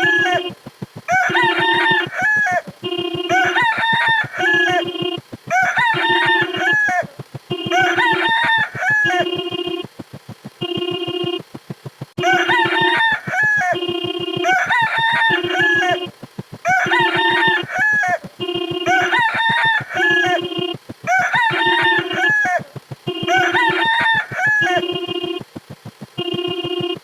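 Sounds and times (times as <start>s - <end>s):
rooster crowing: 0.0s - 9.4s, 12.2s - 13.8s, 14.4s - 25.0s.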